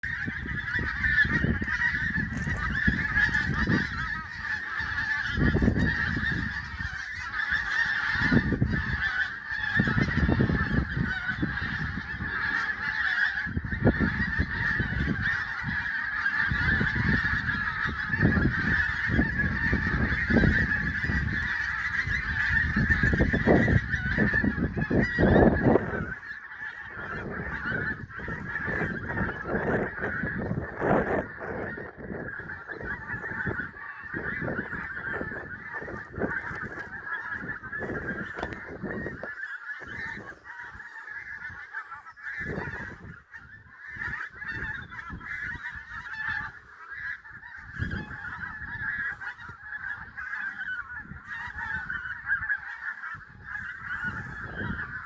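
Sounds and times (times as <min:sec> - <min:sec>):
geese honking: 0:00.0 - 0:55.0.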